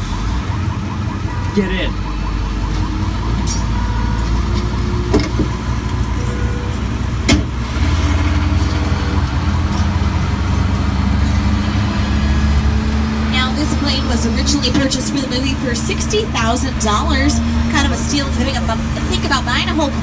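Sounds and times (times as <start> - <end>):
tram engine rumbling: 0.0 - 20.0.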